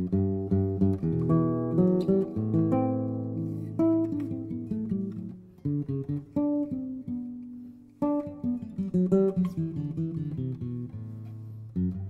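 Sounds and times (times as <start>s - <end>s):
acoustic guitar picking: 0.0s - 12.0s.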